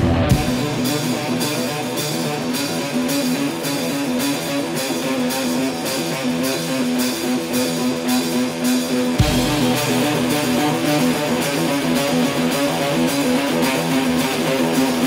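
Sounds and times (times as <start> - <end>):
guitar music with steady beat: 0.0 - 15.0.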